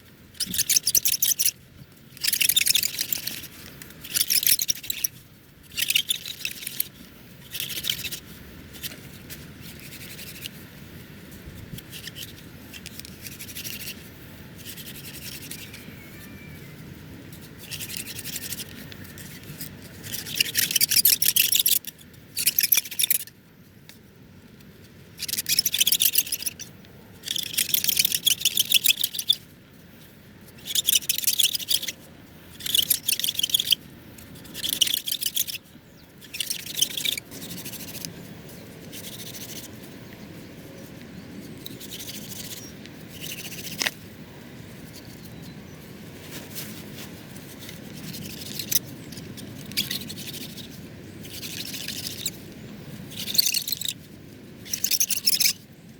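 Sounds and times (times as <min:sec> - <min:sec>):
wooden branch rubbing for fire: 0:00.3 - 0:23.3, 0:25.2 - 0:29.9, 0:30.5 - 0:55.6.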